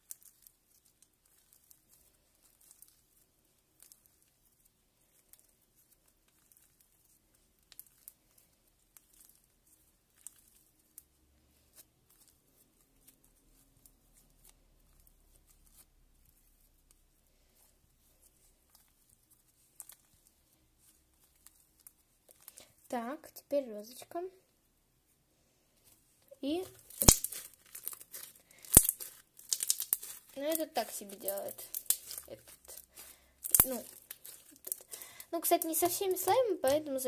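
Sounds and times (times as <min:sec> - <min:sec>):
slime crackling as it stretches: 0:00.0 - 0:24.3, 0:25.8 - 0:37.0.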